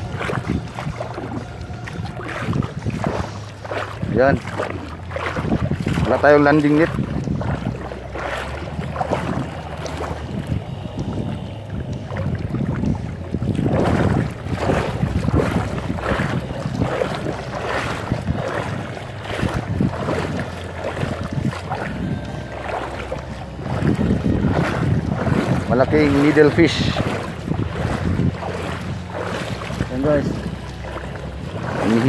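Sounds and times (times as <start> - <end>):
water splashing from wading: 0.0 - 32.0
wind rumbling on microphone: 0.0 - 32.0.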